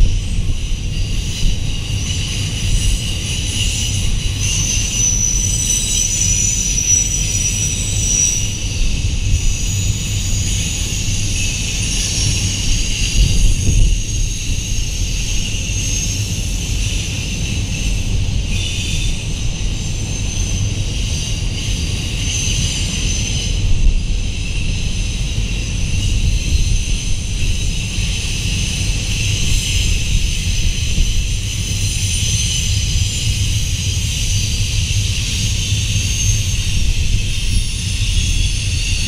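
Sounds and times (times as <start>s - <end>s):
freight train cars rumbling: 0.0s - 39.0s.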